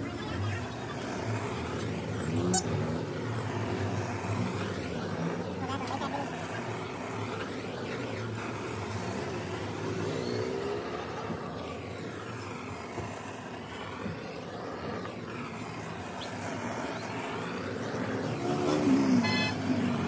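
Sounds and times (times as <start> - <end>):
blowtorch flame hissing: 0.0 - 20.0.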